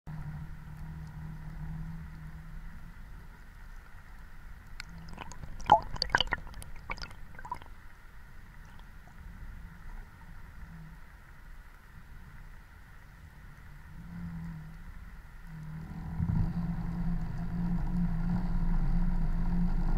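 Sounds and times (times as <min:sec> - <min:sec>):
underwater clicks and gurgles: 0:00.1 - 0:19.9
underwater low hum: 0:00.1 - 0:19.9.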